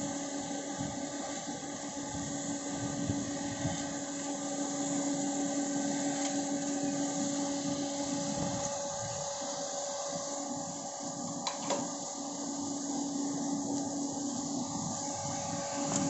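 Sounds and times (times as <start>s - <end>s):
roasting machine motor and fan hum: 0.0s - 16.0s.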